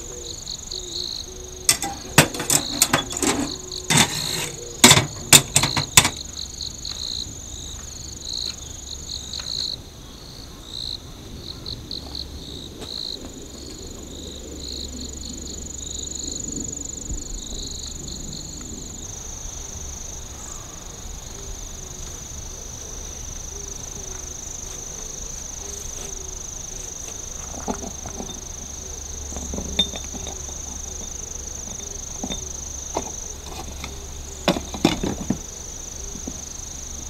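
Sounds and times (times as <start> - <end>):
night insects singing: 0.0 - 37.0.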